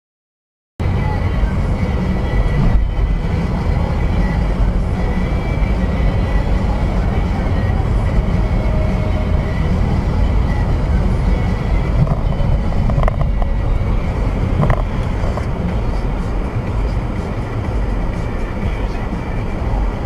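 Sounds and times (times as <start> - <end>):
car engine and road noise: 0.8 - 20.0.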